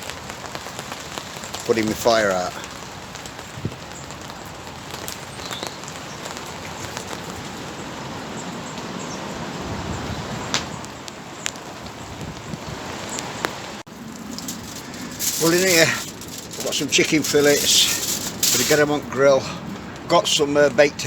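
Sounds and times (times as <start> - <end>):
light rain falling: 0.0 - 21.0.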